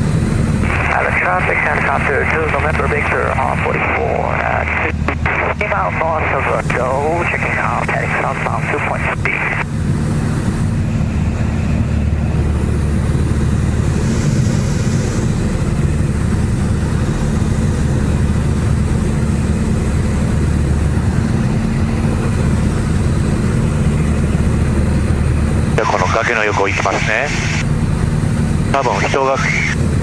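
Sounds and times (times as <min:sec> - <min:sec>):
plane engine and propeller droning: 0:00.0 - 0:30.0.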